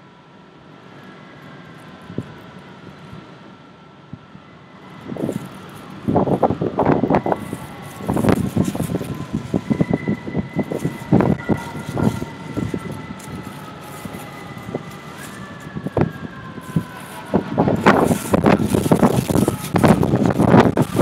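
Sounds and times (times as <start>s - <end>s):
steady high tones drifting in pitch: 1.0s - 21.0s
wind buffeting microphone: 4.1s - 21.0s.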